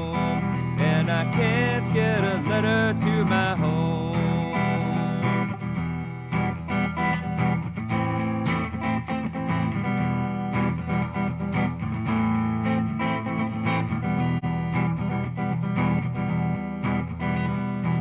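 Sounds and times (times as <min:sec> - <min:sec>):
guitar strumming chords: 0:00.0 - 0:18.0.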